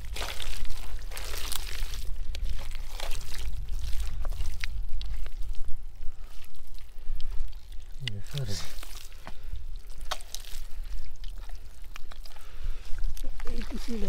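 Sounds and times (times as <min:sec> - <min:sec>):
hands squelching in wet mud: 0:00.0 - 0:14.0.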